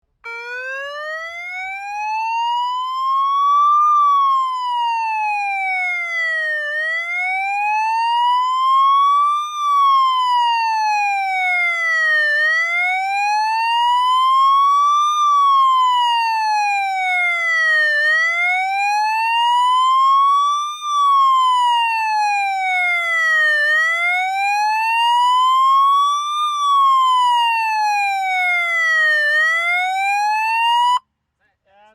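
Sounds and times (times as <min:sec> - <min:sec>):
motorcycle siren wailing: 0:00.2 - 0:31.0.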